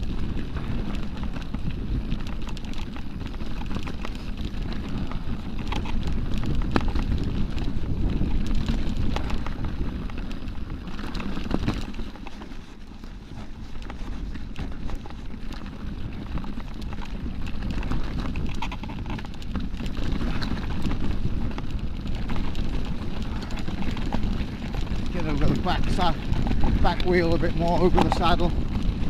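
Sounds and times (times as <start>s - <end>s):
bike frame and chain clatter: 0.0s - 29.0s
bike tyres rattling over rock: 0.0s - 29.0s
wind on microphone: 0.0s - 29.0s.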